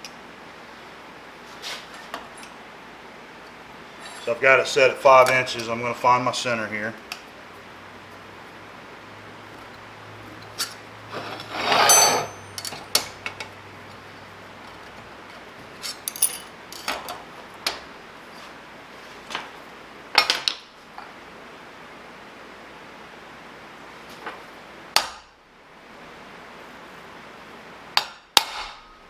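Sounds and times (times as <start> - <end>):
low shop hum: 0.0 - 29.0.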